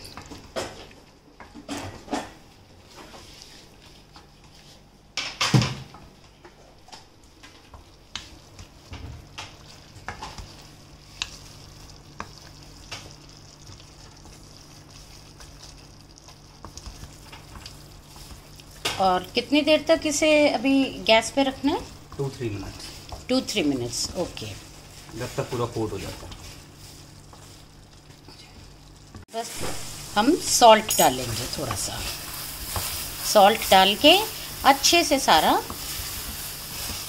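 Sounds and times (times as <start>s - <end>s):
low sizzle: 0.0s - 37.0s.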